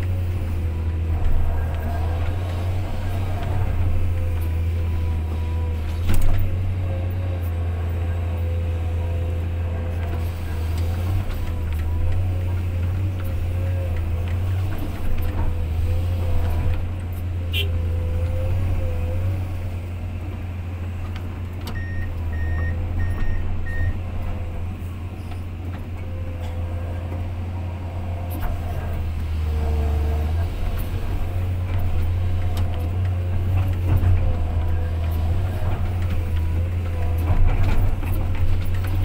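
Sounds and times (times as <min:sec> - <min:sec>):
diesel engine droning: 0:00.0 - 0:39.0.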